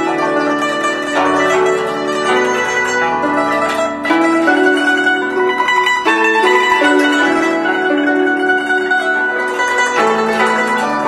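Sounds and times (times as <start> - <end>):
zither plucked notes: 0.0 - 11.0.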